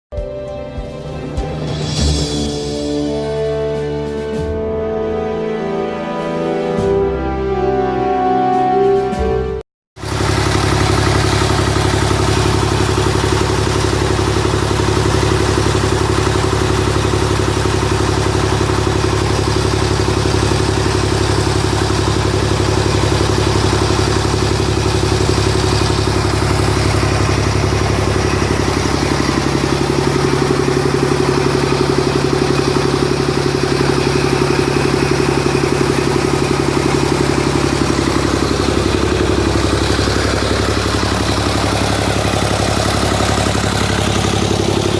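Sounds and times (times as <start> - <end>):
engine running: 0.2 - 7.2, 10.0 - 44.9.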